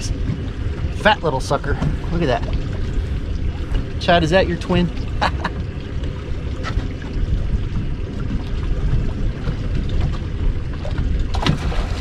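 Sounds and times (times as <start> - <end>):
water sloshing against hull: 0.0 - 12.0
wind rumbling on microphone: 0.0 - 12.0.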